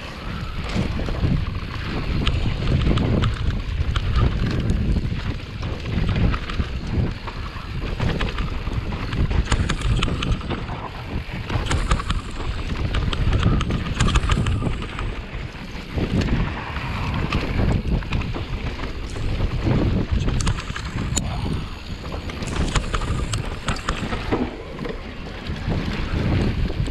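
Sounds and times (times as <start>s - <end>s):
bike rattling and clicking: 0.0s - 26.9s
tyres rumbling over dirt trail: 0.0s - 26.9s
wind noise on microphone: 0.0s - 26.9s.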